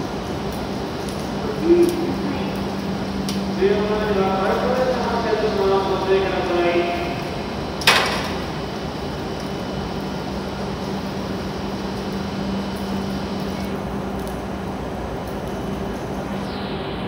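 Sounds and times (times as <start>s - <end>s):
train mechanical hum: 0.0s - 17.0s.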